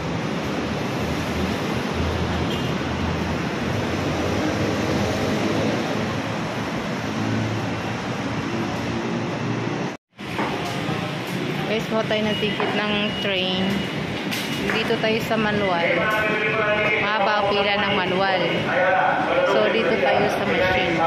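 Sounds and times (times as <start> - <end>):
road traffic rushing: 0.0 - 21.0.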